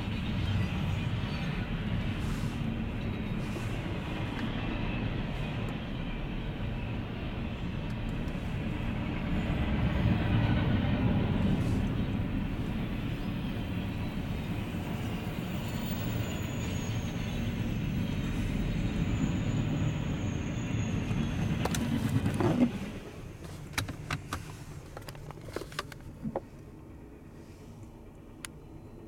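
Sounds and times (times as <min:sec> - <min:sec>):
train wheels rumbling on rail: 0:00.0 - 0:26.5.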